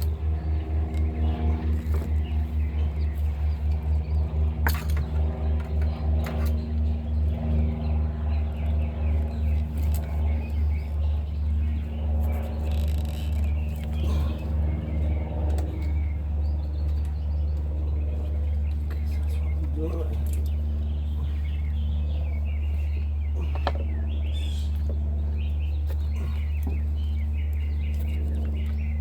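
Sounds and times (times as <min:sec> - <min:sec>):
engine idling with low rumble: 0:00.0 - 0:29.0.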